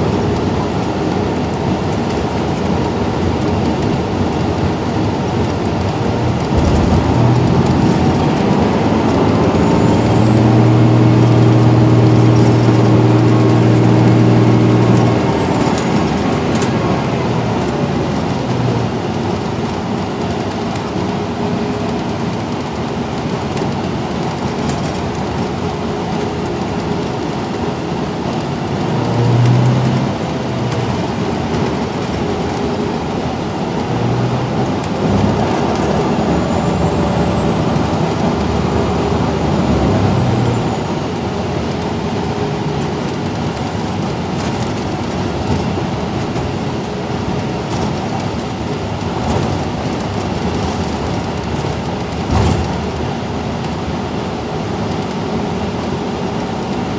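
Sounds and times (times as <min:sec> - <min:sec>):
bus engine and road noise: 0:00.0 - 0:56.9.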